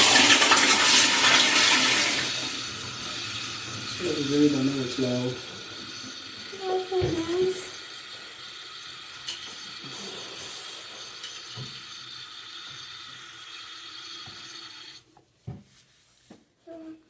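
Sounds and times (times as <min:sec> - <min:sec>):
electric machine whirring: 0:00.0 - 0:15.0.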